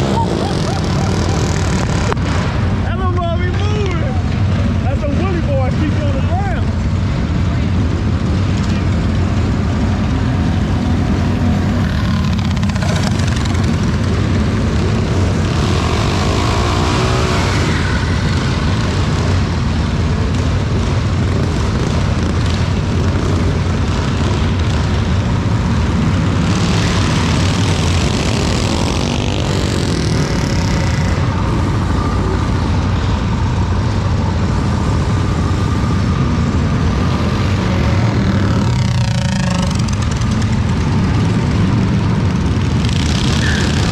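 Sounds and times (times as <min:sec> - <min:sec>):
vehicle engine rumble: 0:00.0 - 0:43.9.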